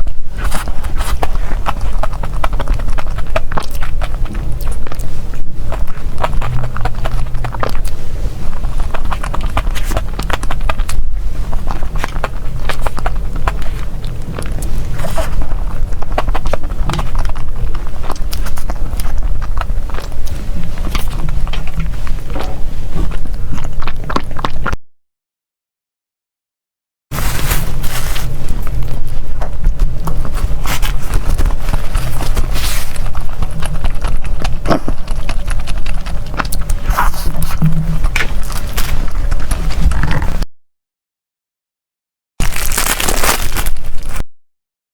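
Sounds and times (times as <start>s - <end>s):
steady low hum: 0.0s - 24.7s, 27.1s - 40.4s
chewing and wet mouth sounds: 0.0s - 24.8s, 27.2s - 40.4s.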